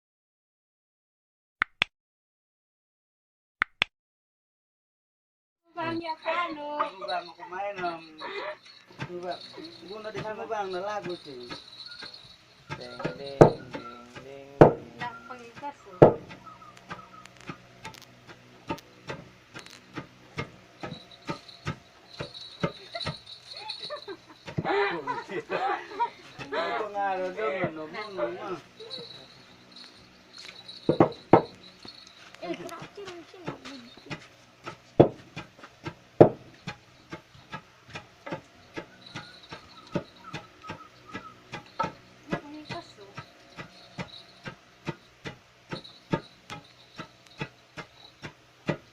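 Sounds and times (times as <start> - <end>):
pestles knocking in mortar: 5.8 - 48.9.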